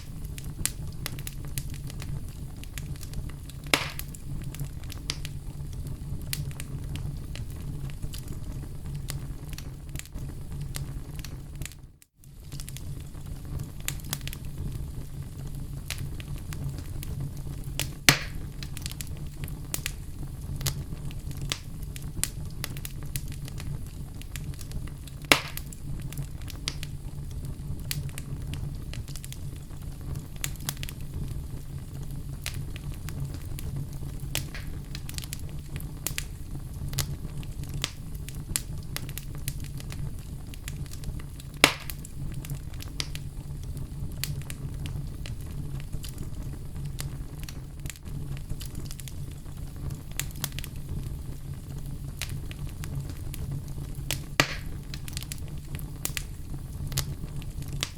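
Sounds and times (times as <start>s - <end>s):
loud fire pops: 0.0s - 57.9s
wood fire crackling: 0.0s - 57.9s.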